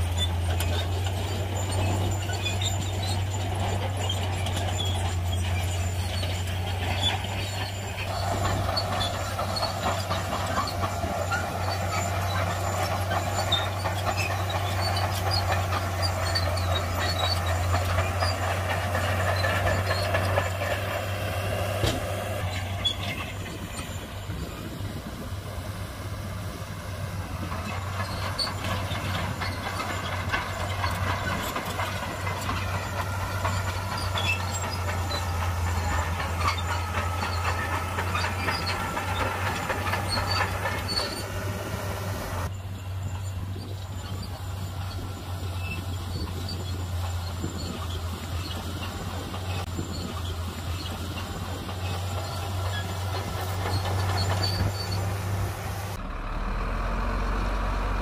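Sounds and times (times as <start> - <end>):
diesel engine humming: 0.0 - 58.0.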